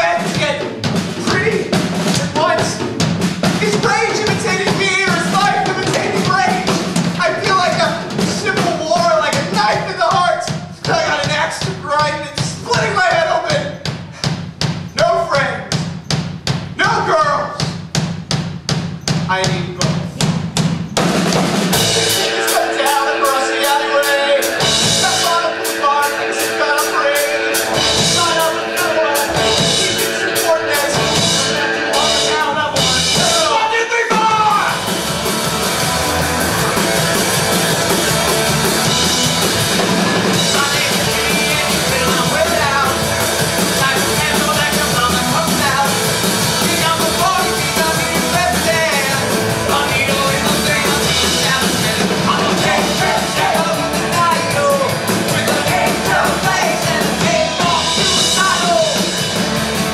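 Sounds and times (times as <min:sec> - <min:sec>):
punk rock band playing: 0:00.0 - 0:59.9.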